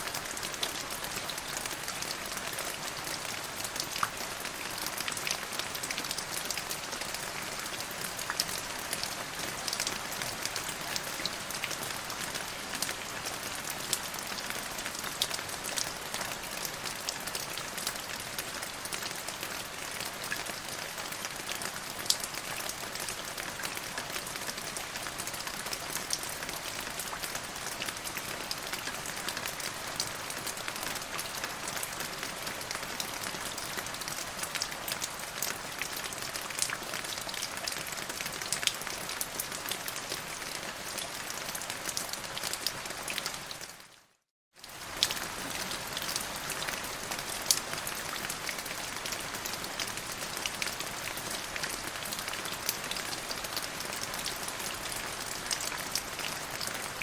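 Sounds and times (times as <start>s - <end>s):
rain drops pattering: 0.0s - 57.0s.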